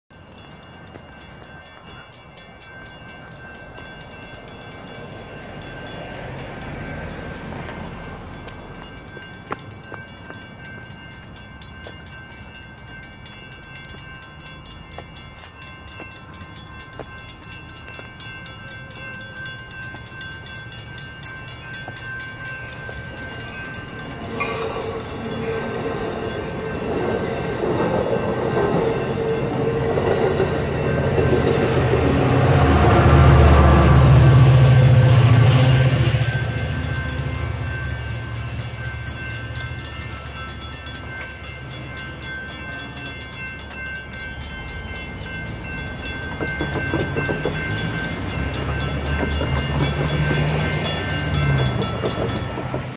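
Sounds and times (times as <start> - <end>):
passenger train rumbling: 0.1 - 52.9
railroad crossing bells ringing: 0.1 - 52.9
road traffic passing: 0.2 - 52.9.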